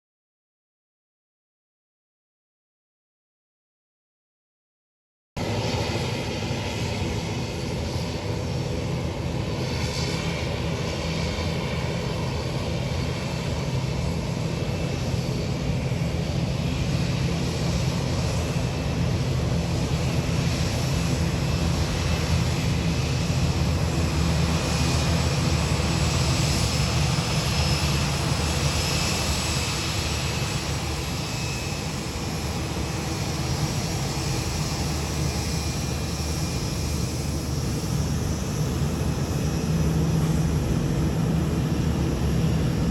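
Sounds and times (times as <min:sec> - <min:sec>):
jet engines running: 0:05.4 - 0:42.9.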